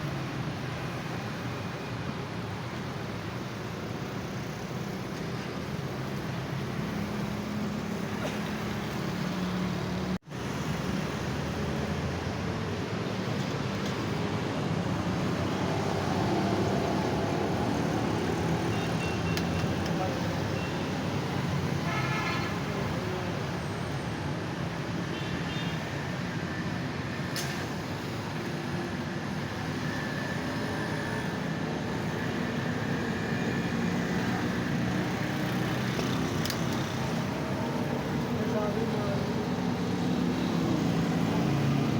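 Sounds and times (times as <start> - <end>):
vehicles passing: 0.0 - 41.9.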